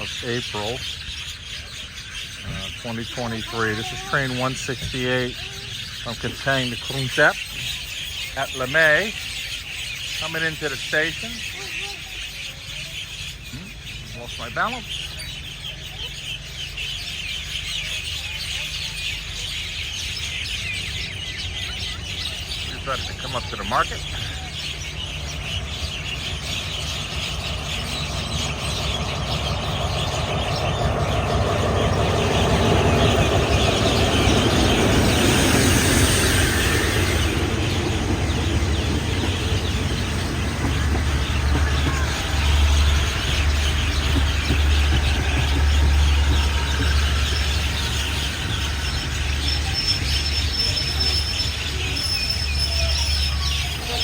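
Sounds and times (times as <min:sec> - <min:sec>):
diesel locomotive idling: 0:00.0 - 0:54.0
flock of birds chirping: 0:00.0 - 0:54.0
train rumbling: 0:00.0 - 0:54.0.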